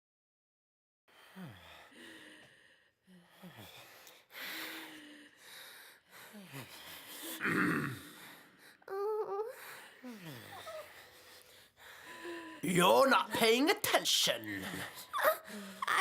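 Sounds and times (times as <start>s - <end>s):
person breathing heavily and groaning: 1.1s - 12.6s, 14.4s - 16.0s.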